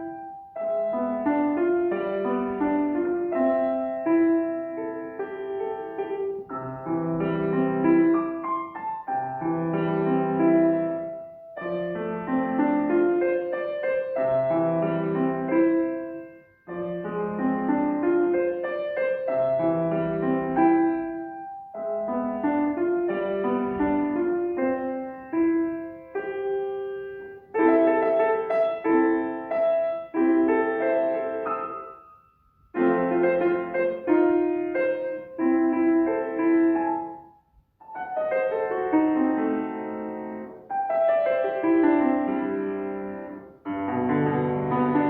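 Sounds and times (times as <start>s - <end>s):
solo piano: 0.0s - 45.0s.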